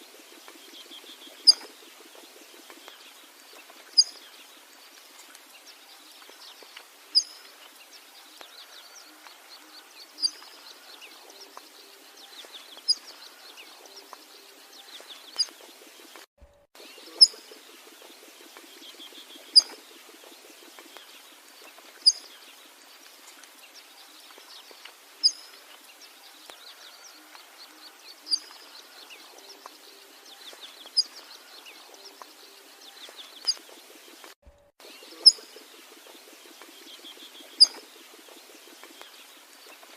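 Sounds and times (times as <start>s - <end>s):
soft chirping: 0.0s - 39.9s.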